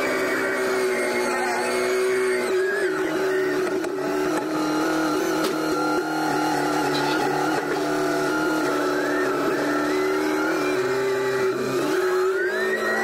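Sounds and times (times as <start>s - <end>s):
hydraulic whine: 0.0s - 13.0s.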